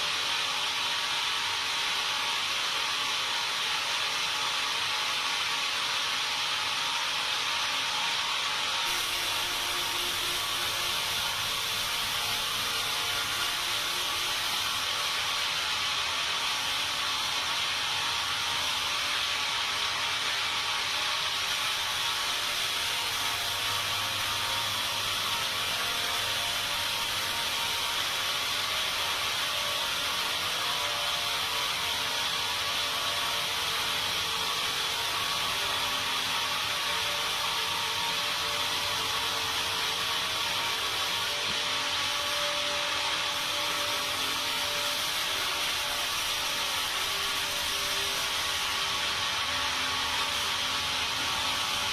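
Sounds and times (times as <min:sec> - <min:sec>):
sawmill machinery hissing: 0:00.0 - 0:51.9.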